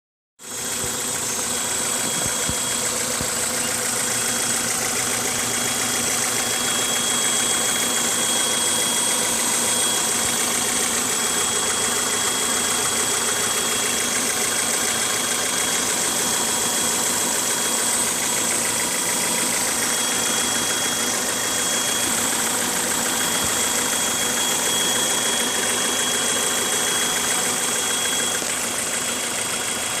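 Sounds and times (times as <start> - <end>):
car engine idling: 0.4 - 30.0
high-pitched whine: 0.4 - 30.0.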